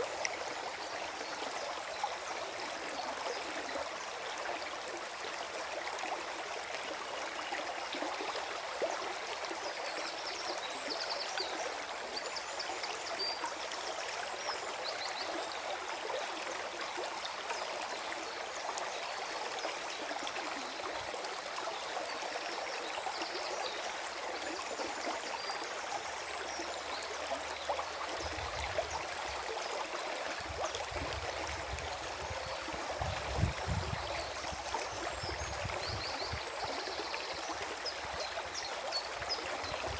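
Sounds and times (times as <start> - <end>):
stream gurgling and trickling: 0.0 - 39.9.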